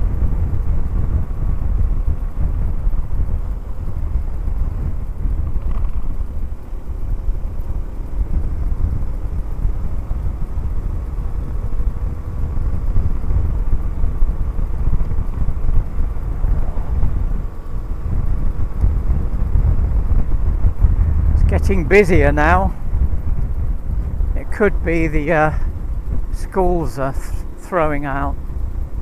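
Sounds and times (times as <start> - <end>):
motorcycle engine running: 0.0 - 29.0
wind rumbling on microphone: 0.0 - 29.0.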